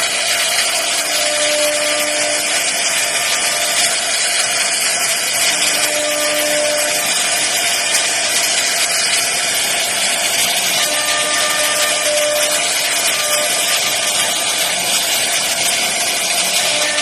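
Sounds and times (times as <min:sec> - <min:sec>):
router spindle cutting wood: 0:00.0 - 0:17.0.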